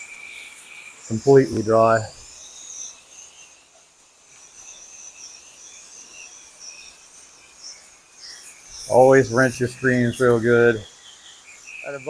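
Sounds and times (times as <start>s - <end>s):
insects chirping trill: 0.0s - 12.0s.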